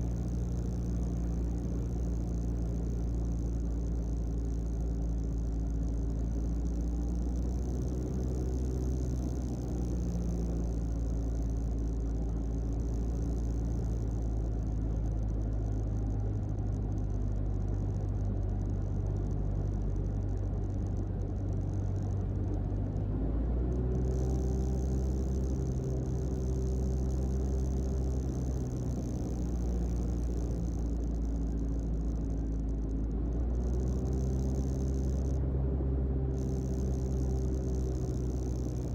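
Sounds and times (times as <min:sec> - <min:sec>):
aircraft engine low drone: 0:00.0 - 0:38.9.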